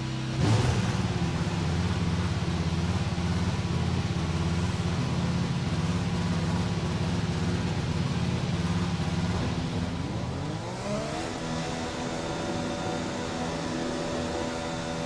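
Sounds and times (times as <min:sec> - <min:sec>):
racing car engine idling: 0:00.0 - 0:15.0.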